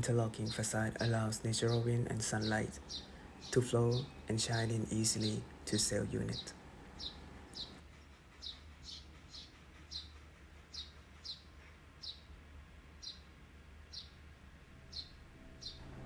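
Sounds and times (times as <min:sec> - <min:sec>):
small bird chirping: 0:00.0 - 0:07.8, 0:08.4 - 0:12.3, 0:13.0 - 0:14.2, 0:14.8 - 0:16.0
low steady hum: 0:00.0 - 0:08.8, 0:10.4 - 0:16.0.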